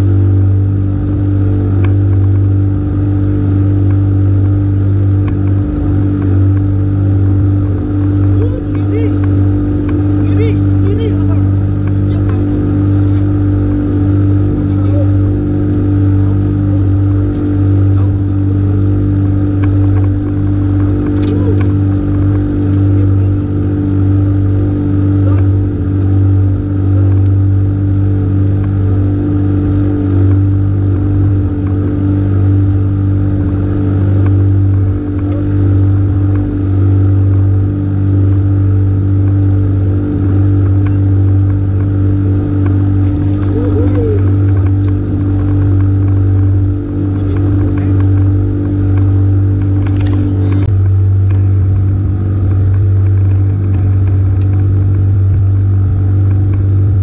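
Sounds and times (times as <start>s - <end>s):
small engine droning: 0.0s - 57.0s.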